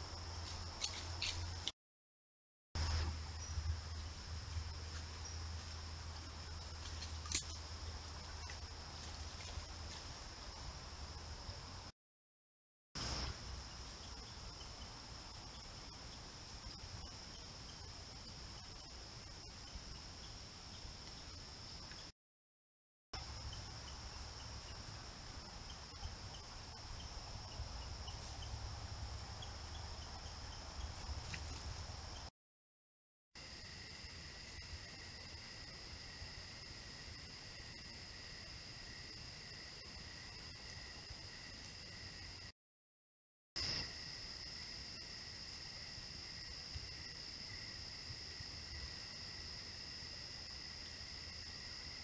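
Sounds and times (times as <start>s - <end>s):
high drone of insects: 0.0s - 1.7s, 2.8s - 11.9s, 13.0s - 22.1s, 23.2s - 32.3s, 33.4s - 42.5s, 43.6s - 52.0s
crickets trilling: 2.8s - 11.9s, 13.0s - 22.1s, 23.2s - 32.3s, 33.4s - 42.5s, 43.6s - 52.0s.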